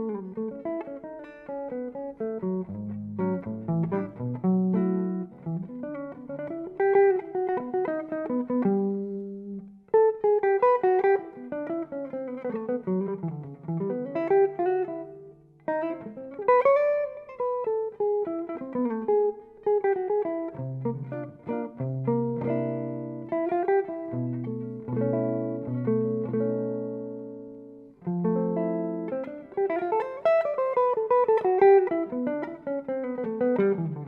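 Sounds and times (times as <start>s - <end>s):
picked guitar notes: 0.0s - 34.0s.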